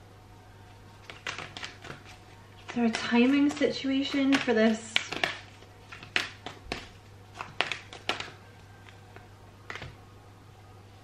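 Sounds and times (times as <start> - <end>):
faint low hum: 0.0 - 11.0
cards shuffling and tapping: 1.0 - 10.0.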